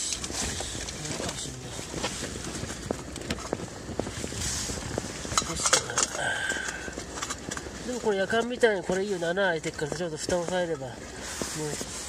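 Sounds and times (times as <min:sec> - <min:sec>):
handling noise rustling: 0:00.0 - 0:12.0.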